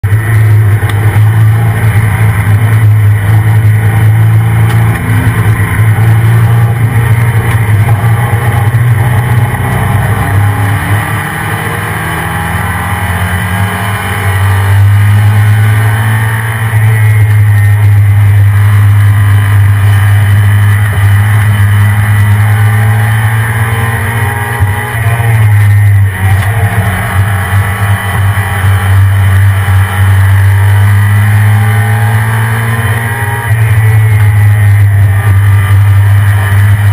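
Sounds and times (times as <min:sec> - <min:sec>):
car engine droning: 0:00.0 - 0:36.9.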